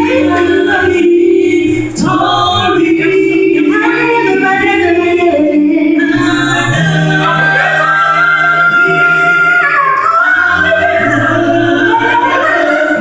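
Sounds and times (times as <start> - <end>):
a cappella vocal group singing: 0.0 - 13.0.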